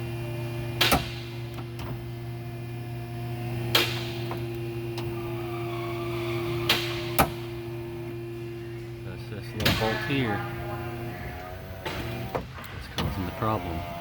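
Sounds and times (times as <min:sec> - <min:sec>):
power window running: 0:00.0 - 0:14.0
steady hum: 0:00.0 - 0:14.0.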